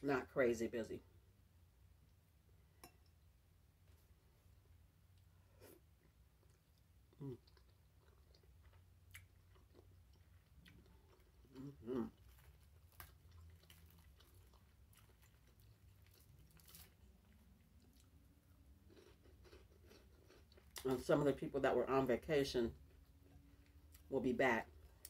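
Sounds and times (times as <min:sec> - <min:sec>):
faint chewing and mouth sounds: 0:02.8 - 0:21.6, 0:22.7 - 0:25.0.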